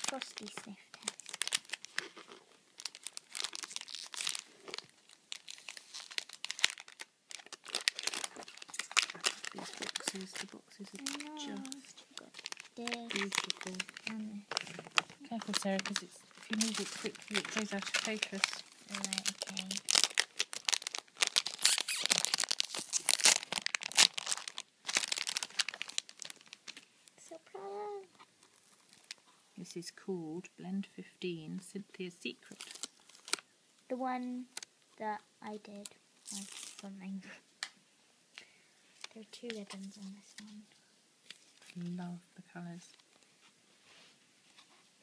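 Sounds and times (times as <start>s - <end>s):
gift wrapping crinkling: 0.0s - 29.9s, 31.6s - 37.8s, 38.4s - 45.0s.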